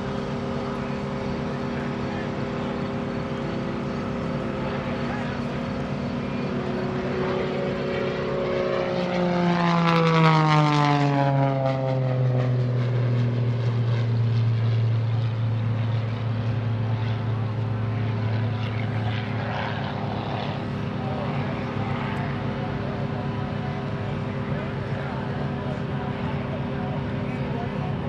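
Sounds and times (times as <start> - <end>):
propeller plane flying past: 0.0 - 28.0.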